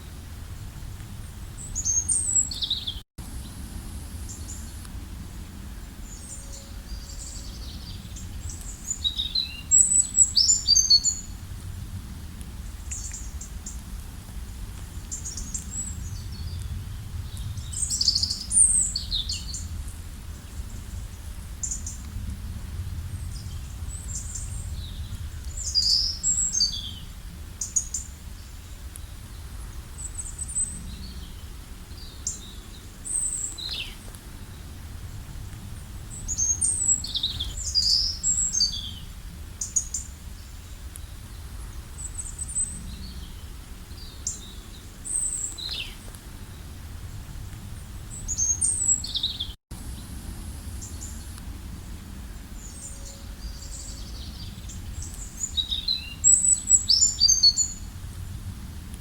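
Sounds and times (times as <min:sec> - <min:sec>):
songbirds chirping: 0:01.2 - 0:58.3.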